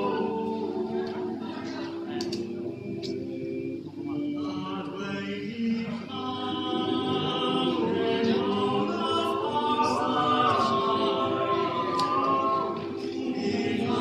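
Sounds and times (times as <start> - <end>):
a cappella choir singing harmony: 0.0 - 14.0.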